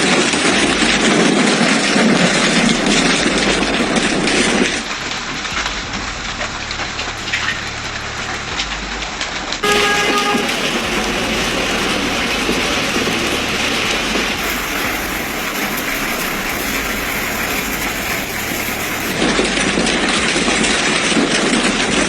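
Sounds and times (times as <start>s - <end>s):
hailstones clattering: 1.1s - 8.9s, 9.6s - 19.6s.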